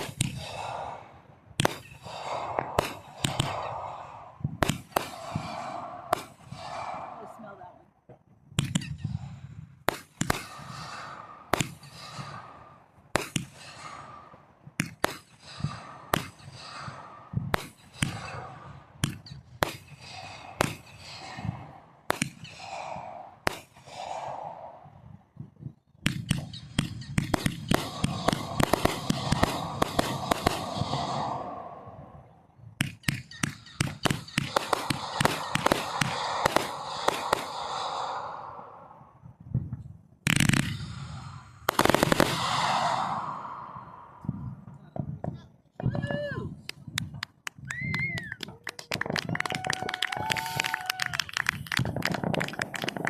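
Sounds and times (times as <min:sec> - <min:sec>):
fireworks banging and crackling: 0:00.0 - 0:24.3, 0:24.9 - 0:38.2, 0:39.2 - 0:53.0.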